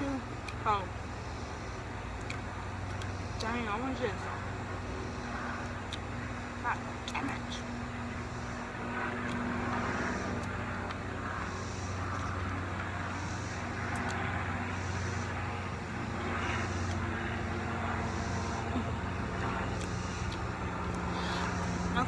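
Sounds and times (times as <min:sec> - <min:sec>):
low mechanical hum: 0:00.0 - 0:22.0
outdoor background noise: 0:00.0 - 0:22.0.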